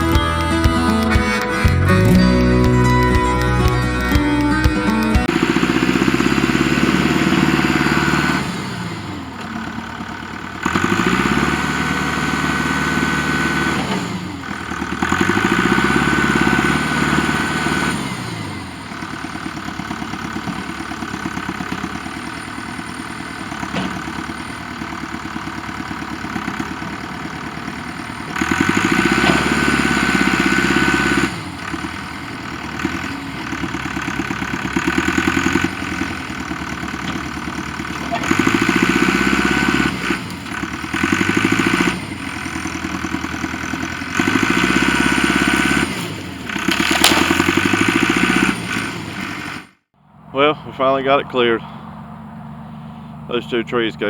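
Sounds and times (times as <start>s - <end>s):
tractor engine revving: 0.0s - 54.0s.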